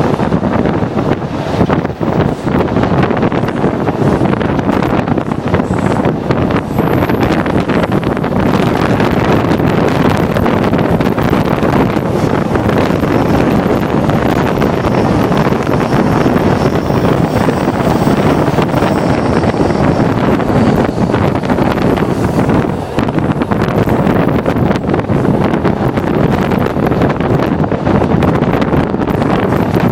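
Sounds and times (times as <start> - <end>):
train rumbling at speed: 0.0 - 29.9
wind buffeting microphone: 0.0 - 29.9.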